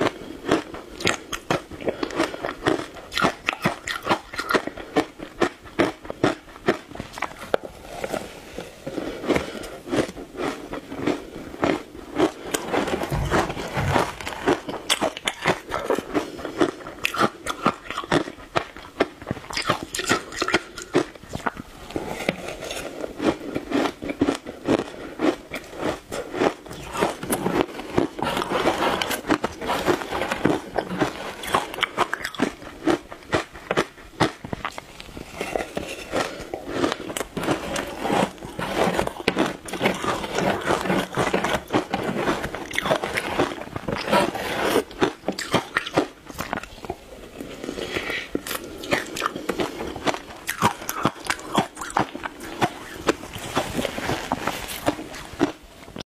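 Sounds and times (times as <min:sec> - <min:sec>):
crunching and chewing ice: 0:00.0 - 0:56.0.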